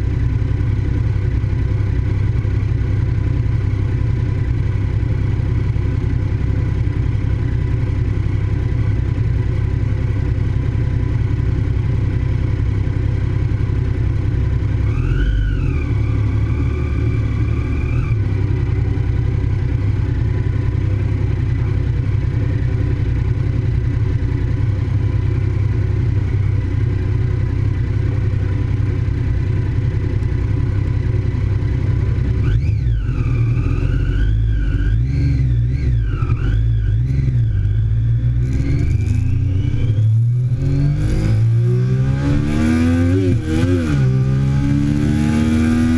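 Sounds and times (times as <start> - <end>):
motorcycle engine running hard: 0.0 - 45.9.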